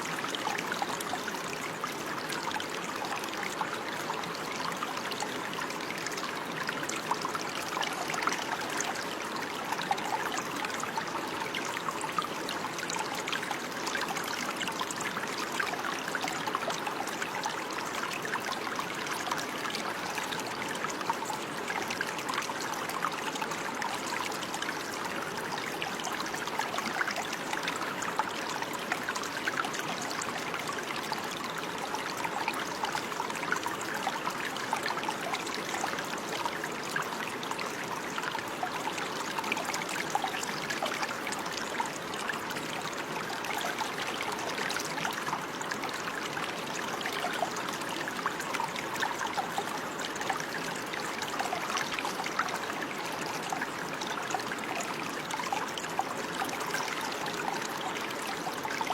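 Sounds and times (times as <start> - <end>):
stream babbling over stones: 0.0 - 58.9.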